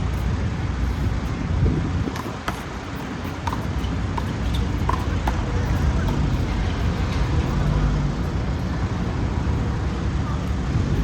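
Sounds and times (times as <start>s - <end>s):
street traffic: 0.0s - 11.0s
wind on microphone: 0.0s - 11.0s.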